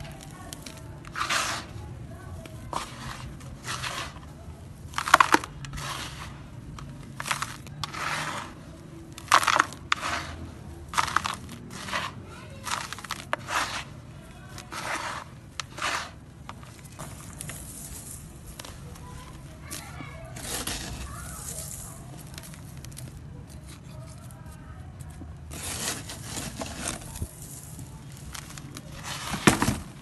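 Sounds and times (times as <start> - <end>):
sand crunching between fingers: 0.0 - 24.3.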